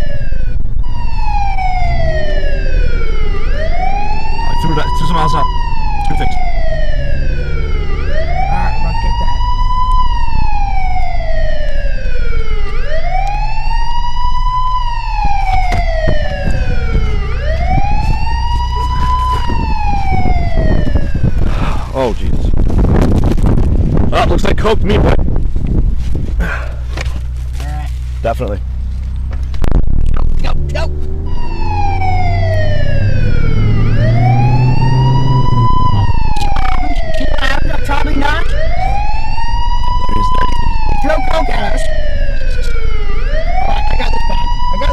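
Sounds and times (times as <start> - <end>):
siren wailing: 0.0 - 22.1, 29.9 - 44.9
car driving rumble: 0.0 - 44.9.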